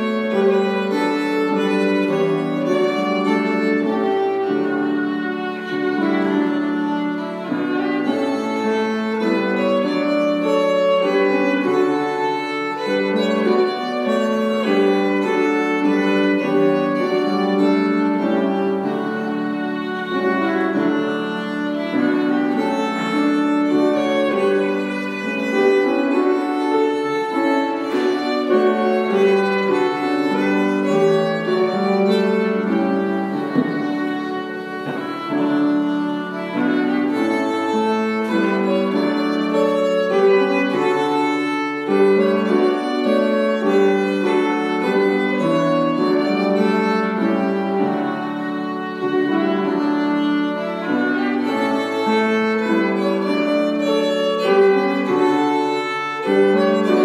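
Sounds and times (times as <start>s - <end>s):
bowed violin melody: 0.0s - 57.0s
piano accompaniment: 0.0s - 57.0s.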